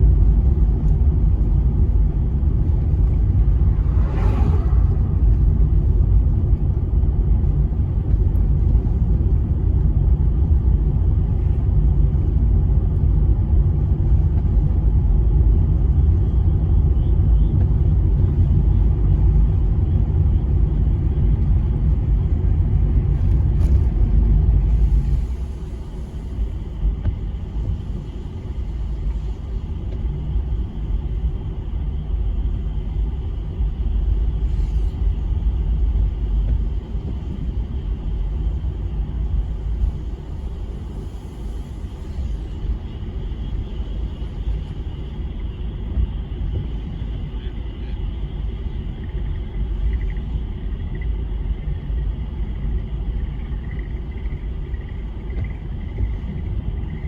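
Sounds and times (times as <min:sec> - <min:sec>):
low rumble: 0:00.0 - 0:57.0.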